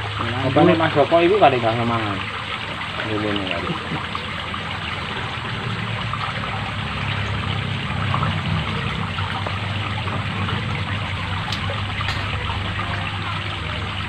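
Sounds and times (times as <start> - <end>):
low steady hum: 0.0 - 14.0
water trickling: 0.0 - 14.0.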